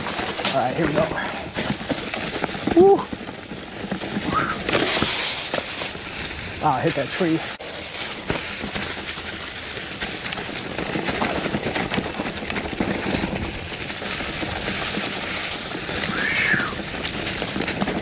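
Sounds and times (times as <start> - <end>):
bike rattles and clicks: 0.0 - 18.0
bike tyres crunching over leaves: 0.0 - 18.0.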